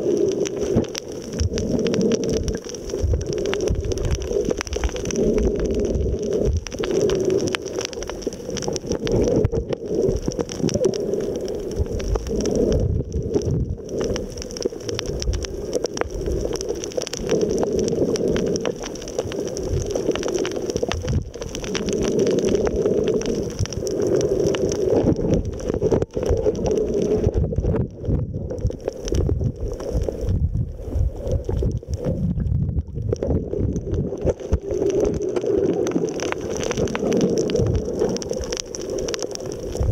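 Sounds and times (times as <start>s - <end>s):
crackle of small clicks: 0.0s - 39.9s
muffled underwater noise: 0.0s - 39.9s.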